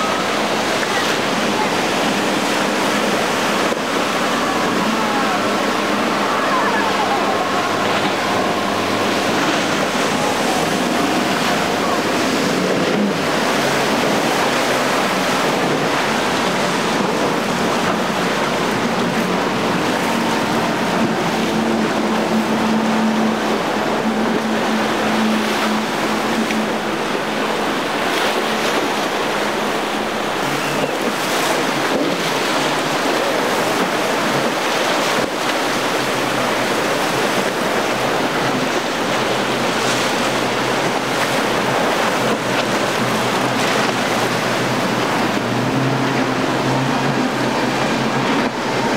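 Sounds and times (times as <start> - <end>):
outboard engines droning: 0.0 - 48.9
surf rushing: 0.0 - 48.9.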